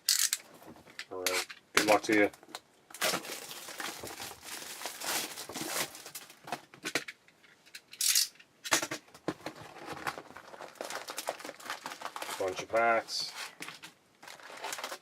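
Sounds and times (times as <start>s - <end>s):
plastic and cardboard handling: 0.4s - 7.1s, 9.0s - 15.0s.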